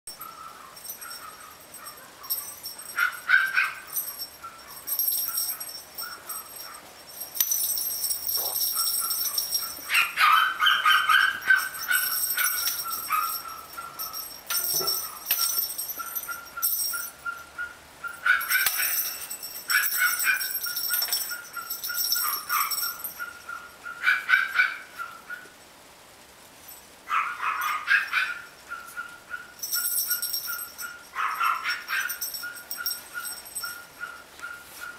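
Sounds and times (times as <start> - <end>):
puppies yipping and barking: 0.1 - 25.5, 27.1 - 34.9.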